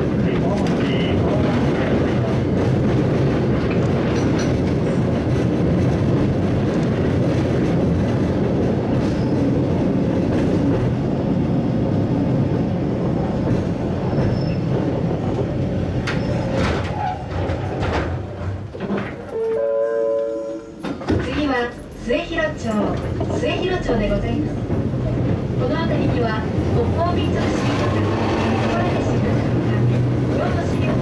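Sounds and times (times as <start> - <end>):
tram wheels rumbling on rails: 0.0 - 31.0.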